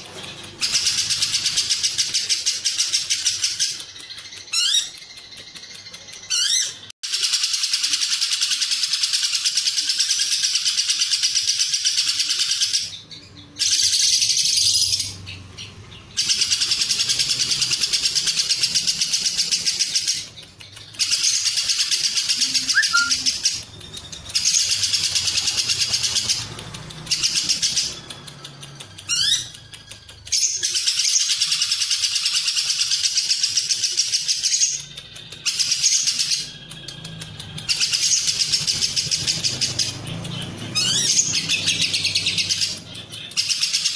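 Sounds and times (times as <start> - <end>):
lovebird chattering trills: 0.0 - 43.9.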